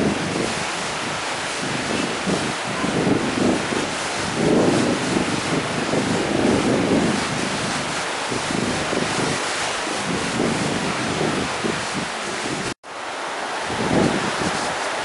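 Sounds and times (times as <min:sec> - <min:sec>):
wind buffeting microphone: 0:00.0 - 0:12.8, 0:13.5 - 0:15.0
river rushing over rapids: 0:00.0 - 0:15.0.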